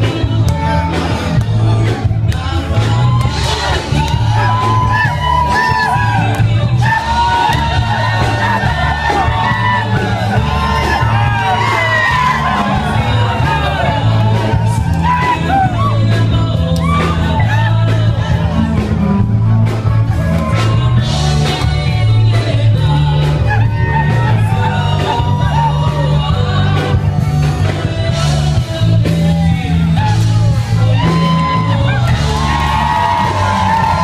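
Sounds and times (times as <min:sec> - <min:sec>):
crowd shouting and whooping: 0:00.0 - 0:34.0
song with singing over drums and bass: 0:00.0 - 0:34.0.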